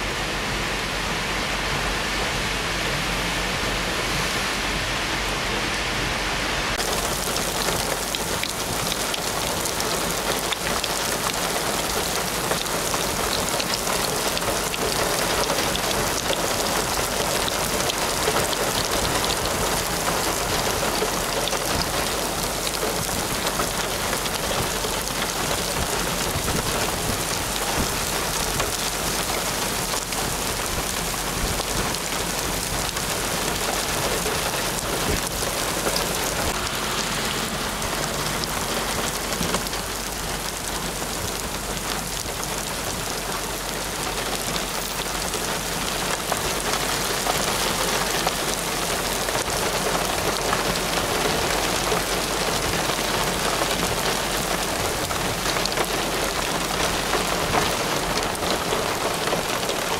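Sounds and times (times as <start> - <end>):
rain on ground and puddles: 0.0 - 59.9.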